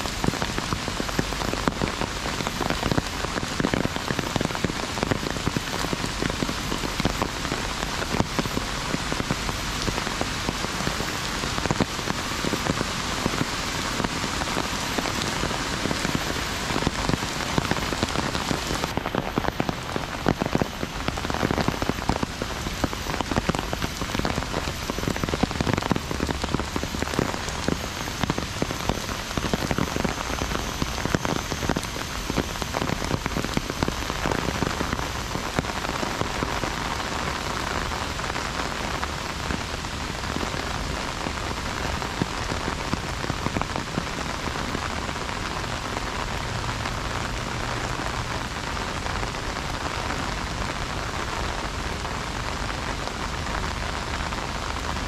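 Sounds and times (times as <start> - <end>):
heavy rain on umbrella: 0.0 - 55.0.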